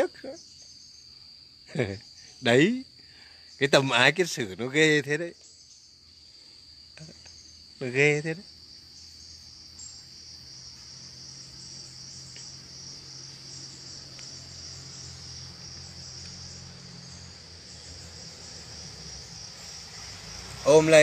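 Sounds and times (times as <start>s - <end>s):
insect chorus chirring: 0.0s - 21.0s.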